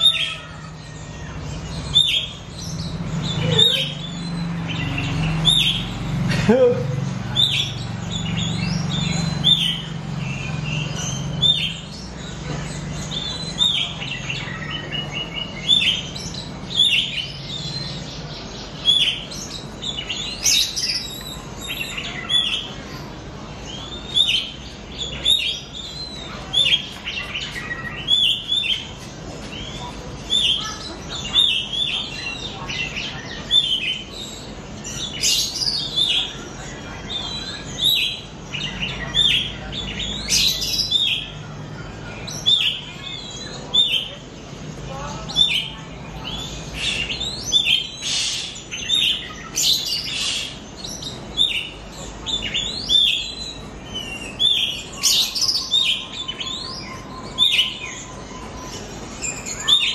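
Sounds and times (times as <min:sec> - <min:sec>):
young bird chirping: 0:00.0 - 0:06.4, 0:07.0 - 0:59.9.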